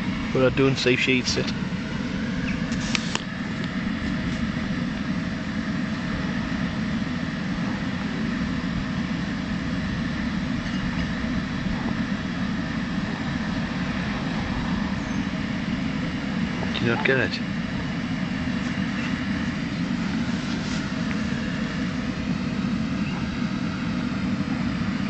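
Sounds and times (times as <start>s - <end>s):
blower fan drone: 0.0s - 25.0s.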